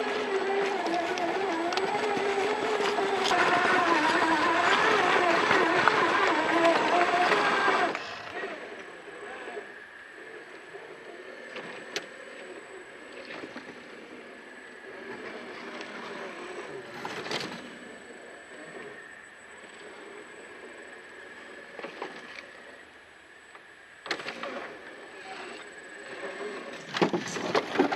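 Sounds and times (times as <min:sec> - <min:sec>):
electric motor whining: 0:00.0 - 0:27.9
faint steady whine: 0:00.0 - 0:27.9.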